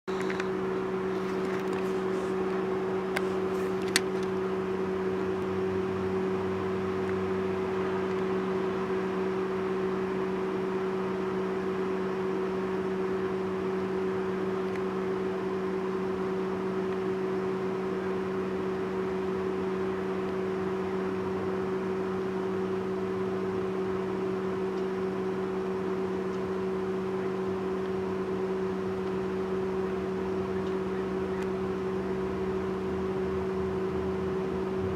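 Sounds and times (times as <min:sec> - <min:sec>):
steady mechanical hum: 0:00.1 - 0:34.9.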